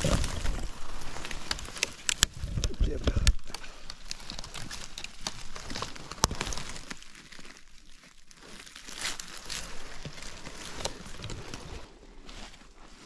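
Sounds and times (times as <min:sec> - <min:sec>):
twigs snapping: 0:00.0 - 0:11.9
footsteps crunching on forest litter: 0:00.0 - 0:13.0.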